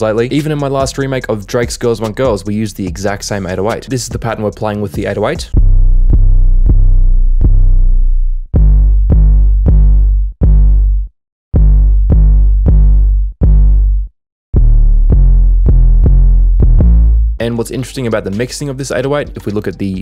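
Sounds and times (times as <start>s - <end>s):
deep synth bass notes: 0.0s - 19.4s.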